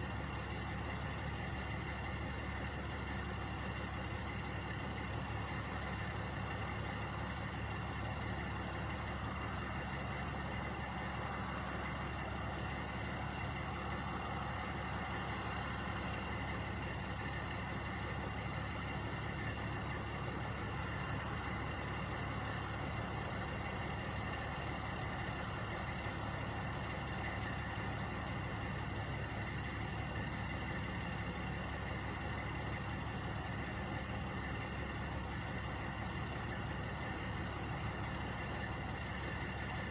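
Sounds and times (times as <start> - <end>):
truck engines idling: 0.0 - 39.9.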